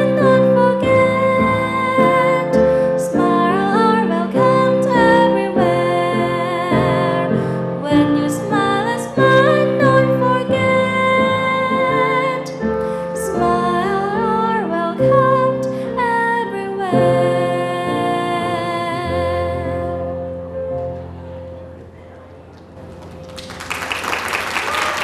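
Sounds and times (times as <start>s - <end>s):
girl singing into a microphone: 0.0s - 20.3s.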